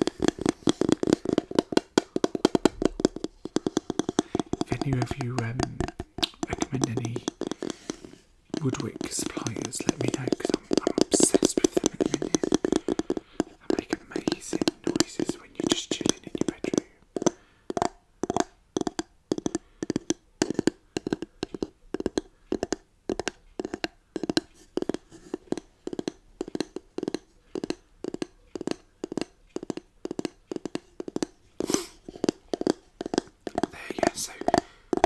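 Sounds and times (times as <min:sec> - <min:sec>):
fingers tapping on candle jar lid: 0:00.0 - 0:35.0.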